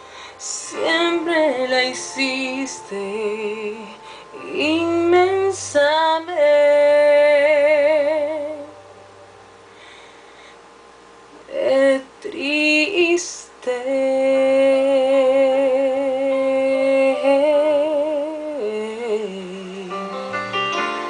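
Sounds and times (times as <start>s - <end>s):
woman singing a pop ballad: 0.0s - 8.8s, 11.4s - 20.2s.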